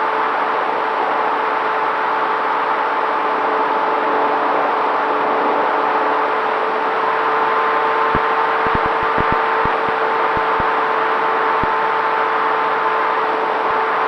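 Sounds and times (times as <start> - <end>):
electric motor and propeller whine: 0.0 - 14.0.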